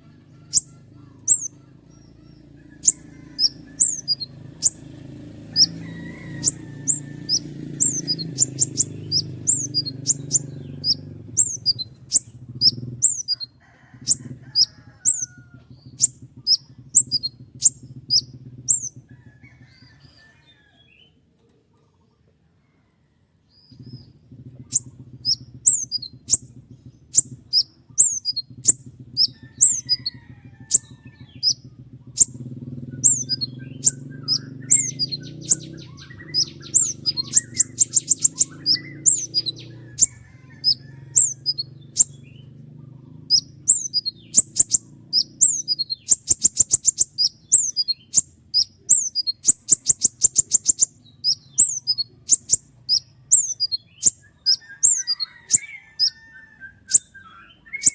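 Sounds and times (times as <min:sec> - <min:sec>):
songbird whistling: 0:00.3 - 0:19.0, 0:24.7 - 0:42.5, 0:43.2 - 0:57.9
bird rattling trills: 0:00.5 - 0:01.6, 0:02.2 - 0:19.0, 0:24.7 - 0:42.2, 0:43.2 - 0:57.1.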